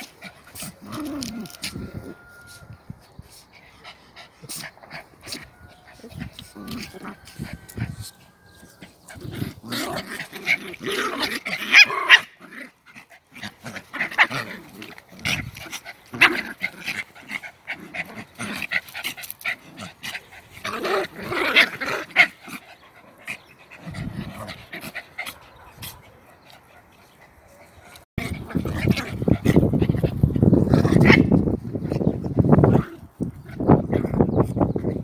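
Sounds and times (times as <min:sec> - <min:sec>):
dogs play-fighting and vocalising: 0:00.0 - 0:35.0.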